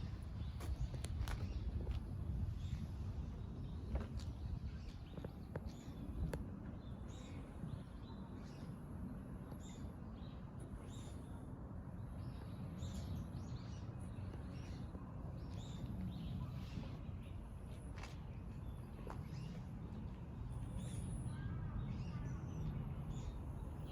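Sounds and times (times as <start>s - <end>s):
low outdoor rumble: 0.0s - 23.9s.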